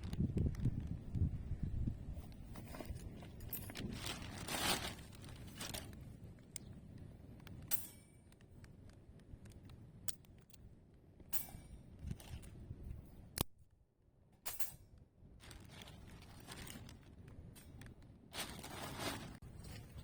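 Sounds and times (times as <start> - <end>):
fire crackles and pops: 0.0 - 13.8, 14.8 - 19.7.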